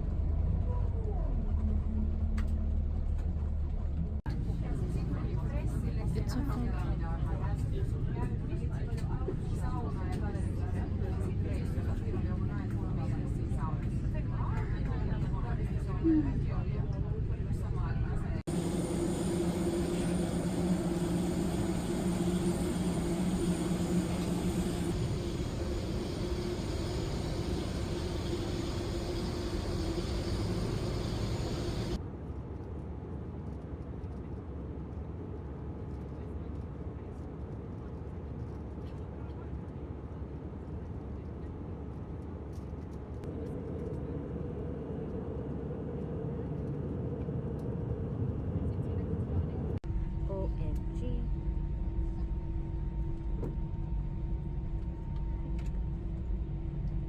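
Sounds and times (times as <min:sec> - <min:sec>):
low two-tone hum: 0:00.0 - 0:32.0, 0:43.0 - 0:57.0.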